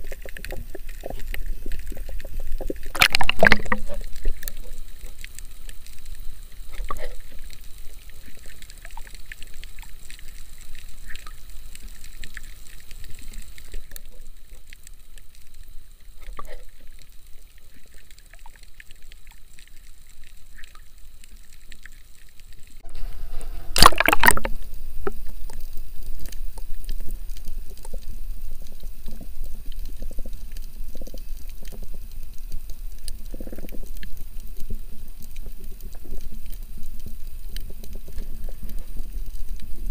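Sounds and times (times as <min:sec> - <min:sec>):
faint underwater clicks: 0:00.0 - 0:22.8, 0:23.8 - 0:39.9
muffled underwater wash: 0:00.0 - 0:39.9.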